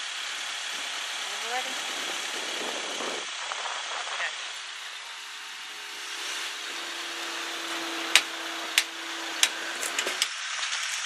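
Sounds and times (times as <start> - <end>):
barrier motor humming: 0.0 - 11.0.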